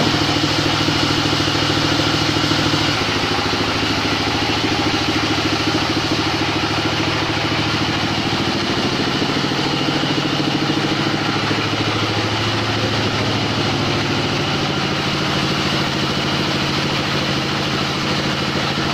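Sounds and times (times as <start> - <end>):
sawmill engine humming: 0.0 - 18.9.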